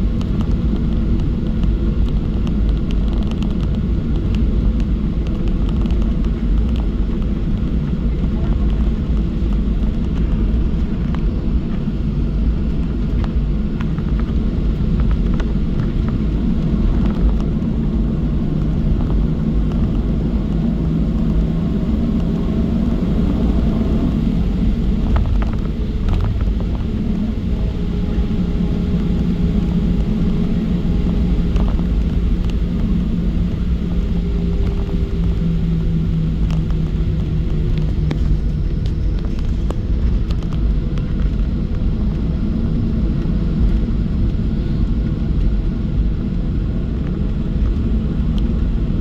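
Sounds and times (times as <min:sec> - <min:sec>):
aircraft cabin rumble: 0:00.0 - 0:49.0
steady hum: 0:07.1 - 0:47.0.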